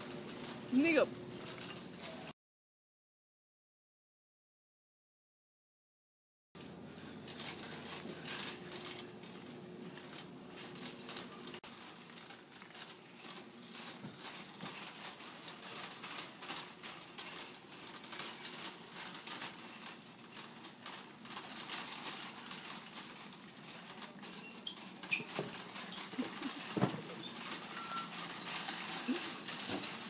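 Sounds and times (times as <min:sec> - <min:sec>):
shopping cart rattling: 0:00.0 - 0:02.3, 0:06.6 - 0:30.0.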